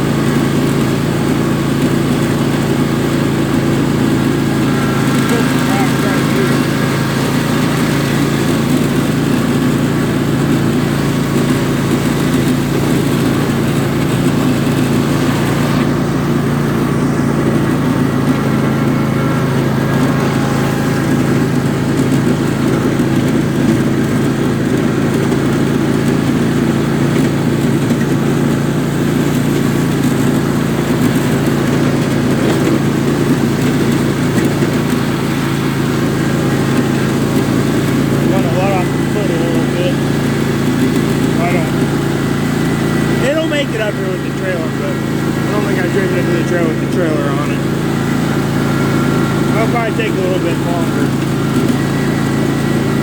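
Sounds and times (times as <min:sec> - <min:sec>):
riding lawn mower engine running: 0:00.0 - 0:53.0.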